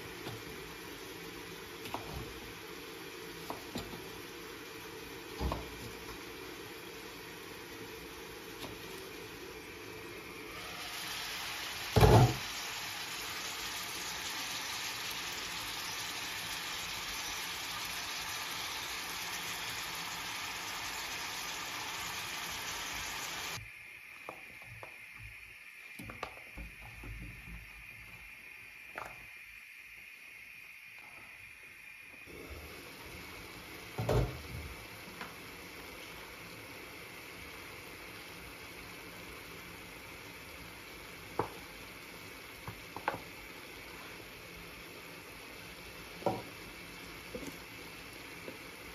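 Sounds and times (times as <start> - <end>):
vegetables sizzling in a frying pan: 0.0 - 29.4, 32.2 - 48.9.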